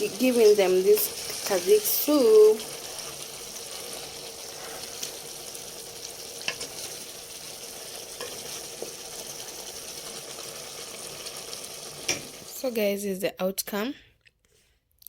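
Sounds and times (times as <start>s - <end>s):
fish sizzling in a pan: 0.0s - 12.8s.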